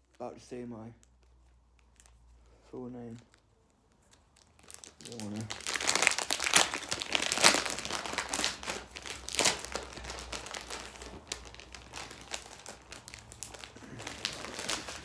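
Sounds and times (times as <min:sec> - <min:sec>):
packaging crinkling: 0:01.0 - 0:02.4, 0:03.0 - 0:15.0.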